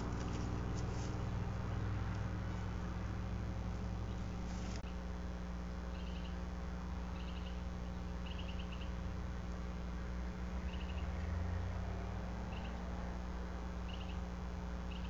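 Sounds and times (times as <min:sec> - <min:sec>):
low electrical hum: 0:00.0 - 0:15.0
outdoor background hiss: 0:00.0 - 0:15.0.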